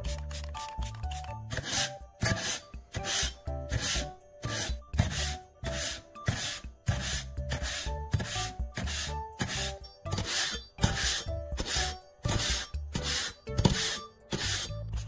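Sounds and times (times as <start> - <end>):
background music: 0.0 - 15.0
knife scraping on sandpaper: 0.1 - 15.0.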